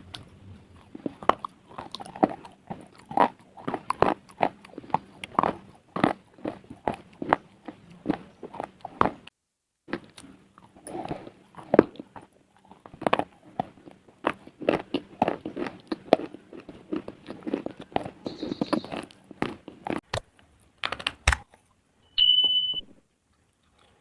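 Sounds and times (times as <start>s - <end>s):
crunchy chewing: 0.0s - 9.3s, 9.9s - 20.2s, 23.3s - 24.0s.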